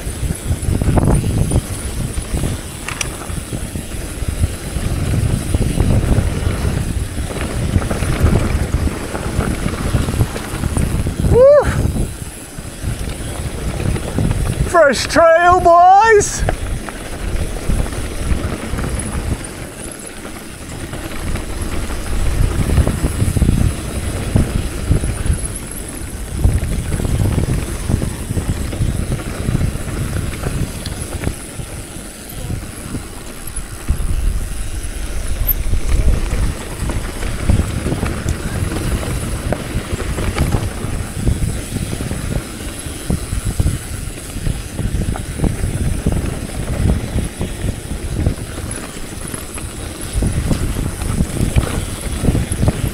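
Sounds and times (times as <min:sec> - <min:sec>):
bike clattering: 0:00.0 - 0:15.2, 0:16.2 - 0:52.9
tyres rumbling over rocky ground: 0:00.0 - 0:52.9
wind on microphone: 0:00.0 - 0:52.9.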